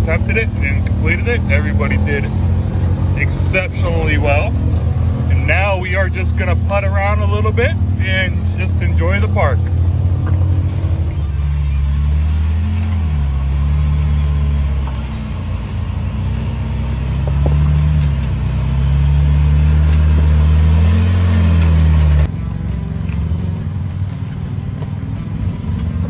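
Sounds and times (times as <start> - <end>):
engine working under load: 0.0 - 26.0.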